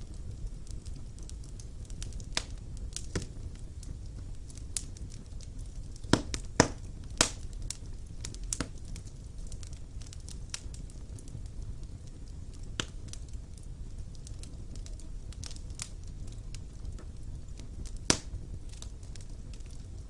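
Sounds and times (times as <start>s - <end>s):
wood fire burning in fireplace: 0.0s - 20.0s.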